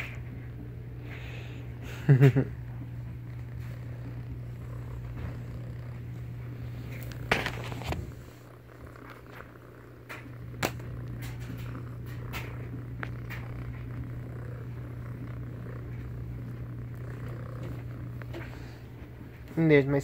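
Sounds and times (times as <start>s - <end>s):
cat purring: 0.0s - 20.0s
rustling of bedding: 3.0s - 20.0s.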